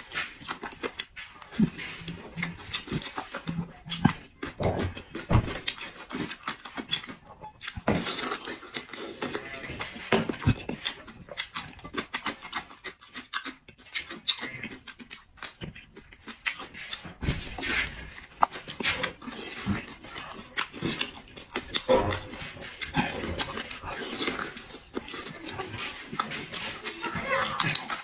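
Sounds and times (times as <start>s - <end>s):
person chewing and lip smacking: 0.0s - 28.0s.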